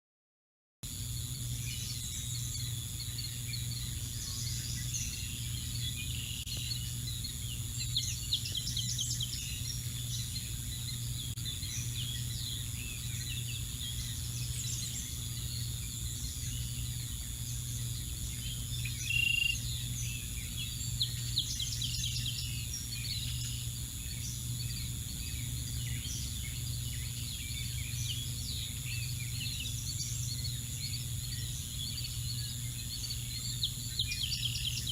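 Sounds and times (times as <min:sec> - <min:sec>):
steady low hum: 0:00.8 - 0:34.9
bird chirps: 0:01.2 - 0:34.9.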